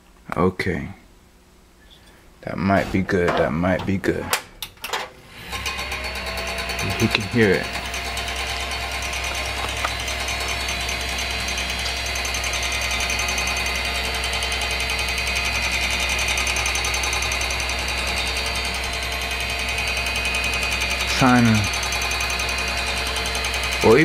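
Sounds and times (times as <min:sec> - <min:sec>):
power supply rattling buzz: 0:02.7 - 0:24.0.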